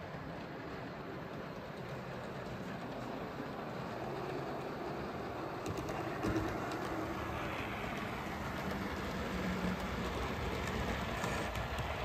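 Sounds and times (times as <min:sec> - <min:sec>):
model train running: 0:00.0 - 0:12.0.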